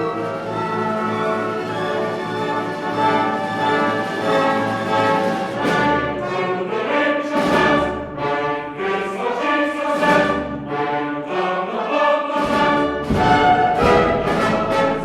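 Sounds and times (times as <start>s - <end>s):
orchestral music: 0.0s - 15.0s.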